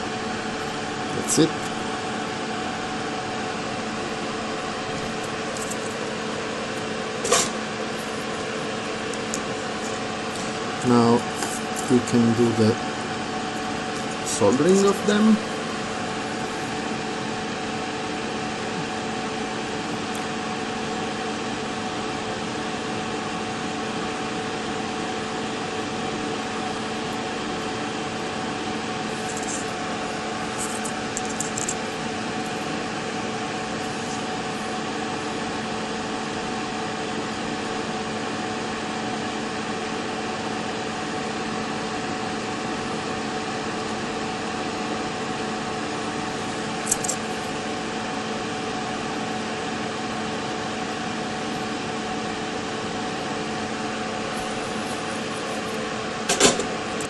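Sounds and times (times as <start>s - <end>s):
background hum and hiss: 0.0s - 57.0s.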